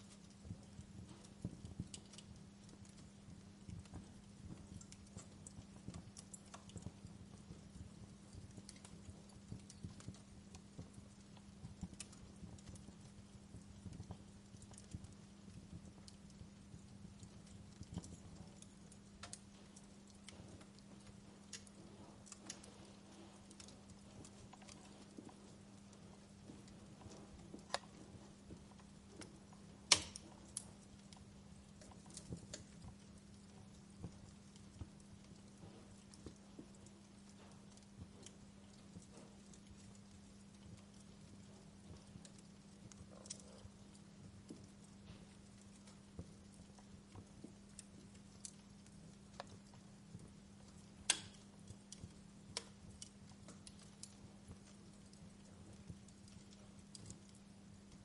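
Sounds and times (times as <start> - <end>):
faint low hum: 0.0 - 58.0
wood fire crackling: 0.0 - 58.0.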